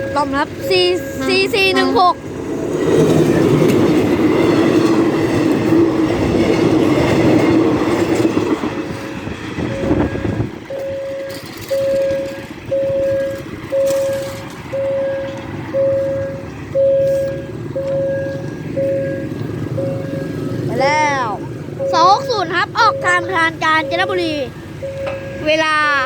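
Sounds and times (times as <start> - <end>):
diesel train rumbling past: 0.0 - 26.0
level-crossing warning bell: 0.0 - 26.0.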